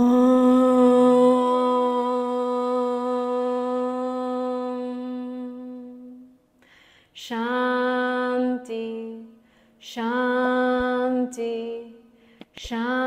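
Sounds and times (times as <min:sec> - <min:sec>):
woman chanting: 0:00.0 - 0:06.4, 0:07.2 - 0:13.0.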